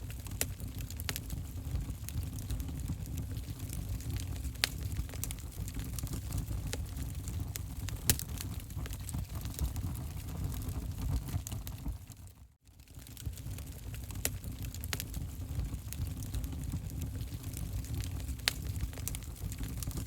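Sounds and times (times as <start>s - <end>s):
fire crackles and pops: 0.0s - 20.0s
fire rumbling in fireplace: 0.0s - 20.0s.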